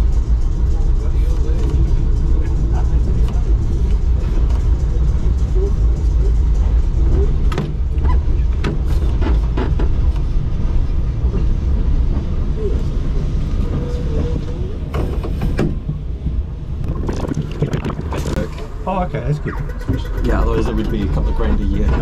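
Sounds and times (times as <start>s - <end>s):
tram rumbling: 0.0s - 22.0s.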